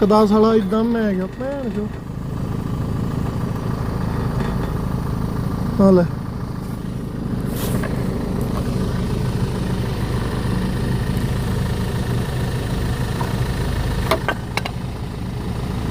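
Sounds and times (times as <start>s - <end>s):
car engine idling with rattle: 0.0s - 15.9s.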